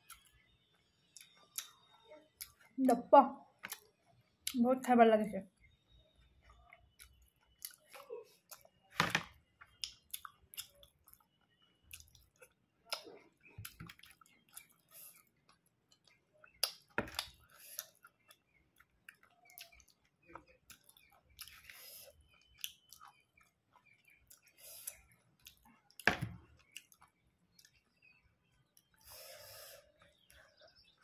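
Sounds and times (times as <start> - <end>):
chewing with wet mouth clicks: 0.0 - 2.8, 3.6 - 4.6, 6.4 - 29.0.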